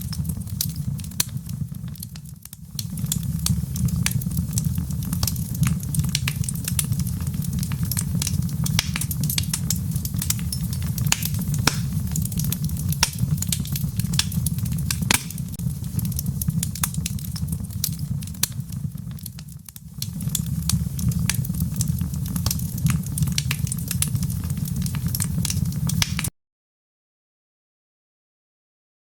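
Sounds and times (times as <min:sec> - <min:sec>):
wood fire crackling and popping: 0:00.0 - 0:26.3.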